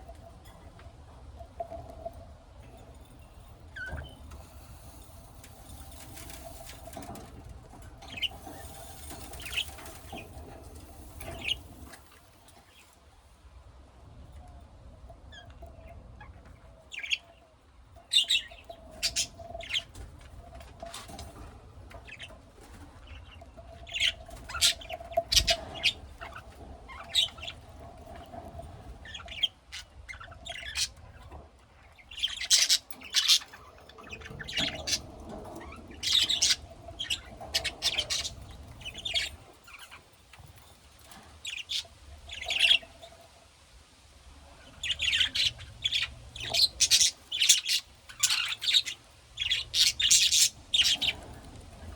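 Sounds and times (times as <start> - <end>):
parrots chirping and squawking: 2.6 - 12.9, 18.0 - 43.3, 44.4 - 51.9.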